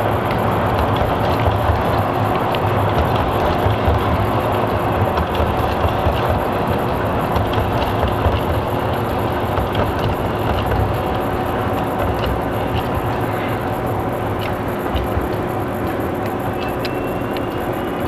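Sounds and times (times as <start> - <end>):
model train wheels rumbling: 0.0 - 18.0.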